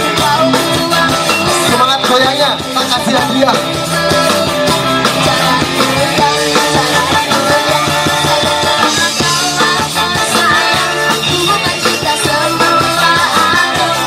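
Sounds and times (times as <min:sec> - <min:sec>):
person singing: 0:00.0 - 0:14.0
rock music with guitars: 0:00.0 - 0:14.0.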